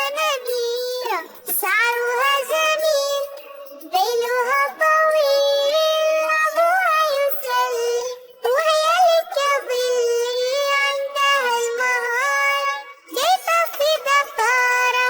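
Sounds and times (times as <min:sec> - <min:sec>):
child singing: 0:00.0 - 0:15.0.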